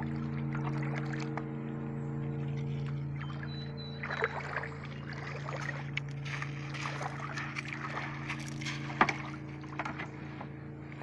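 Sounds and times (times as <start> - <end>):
boat engine droning: 0.0 - 11.0
footsteps splashing through shallow water: 0.0 - 11.0.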